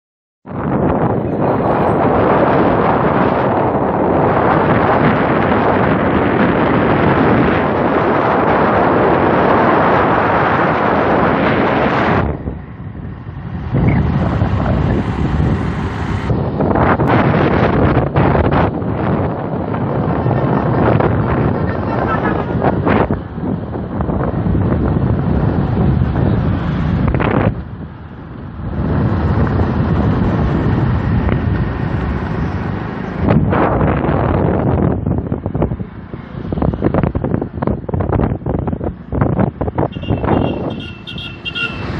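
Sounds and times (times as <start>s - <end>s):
motorcycle road noise: 0.4s - 41.9s
wind rushing over microphone: 0.4s - 41.9s.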